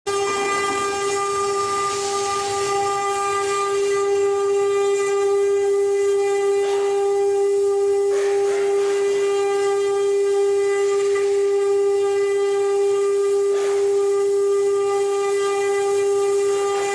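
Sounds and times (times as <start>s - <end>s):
router spindle whining: 0.1s - 16.9s.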